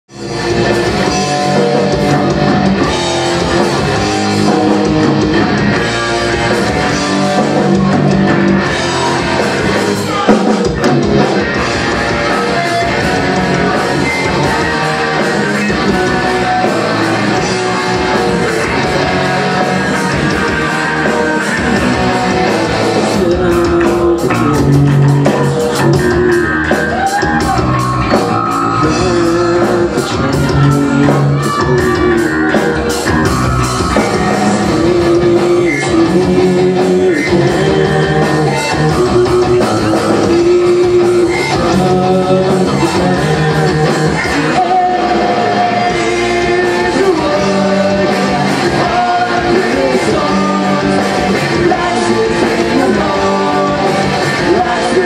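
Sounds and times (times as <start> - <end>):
rock band playing live: 0.1 - 55.0
person singing: 0.2 - 55.0.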